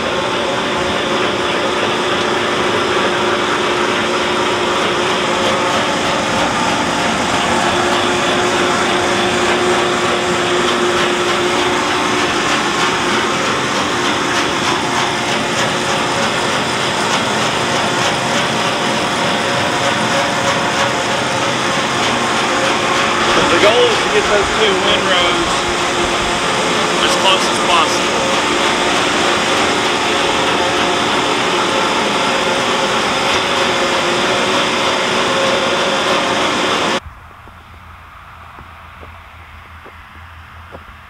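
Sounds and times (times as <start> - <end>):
windrower churning: 0.0 - 37.1
tractor engine droning: 0.0 - 41.0.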